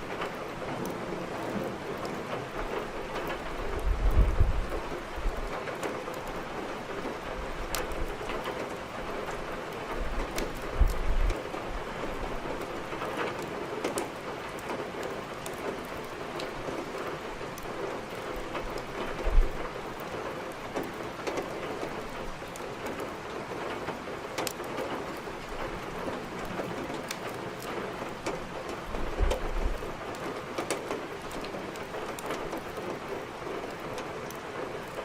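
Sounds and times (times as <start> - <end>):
heavy rain: 0.0 - 35.0
wood fire crackling: 1.9 - 35.0.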